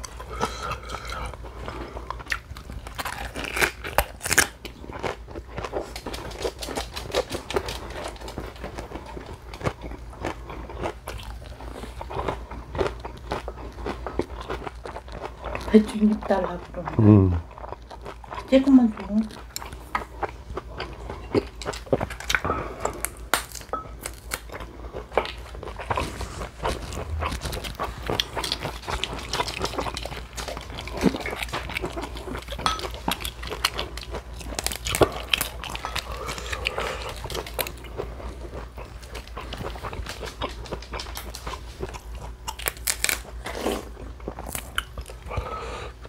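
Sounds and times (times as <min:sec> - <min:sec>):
chewing with crisp crunches: 0:00.0 - 0:46.0.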